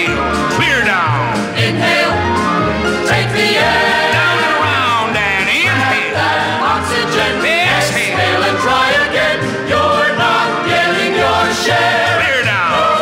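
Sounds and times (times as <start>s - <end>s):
orchestral music with singing: 0.0s - 13.0s.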